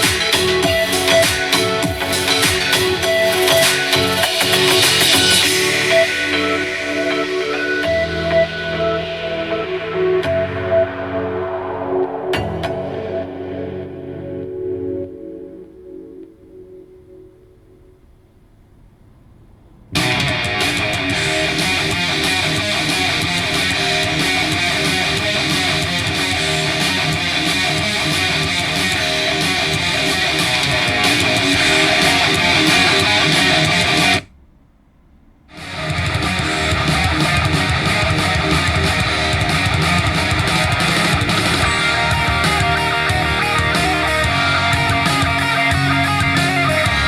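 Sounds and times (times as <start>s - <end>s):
rock music through speaker: 0.0s - 13.8s, 20.0s - 34.2s, 35.5s - 47.0s.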